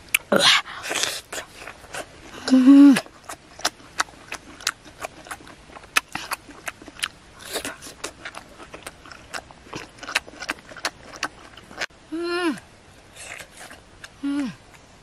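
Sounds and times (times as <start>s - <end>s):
person chewing with mouth clicks: 0.1s - 11.9s, 13.1s - 14.9s.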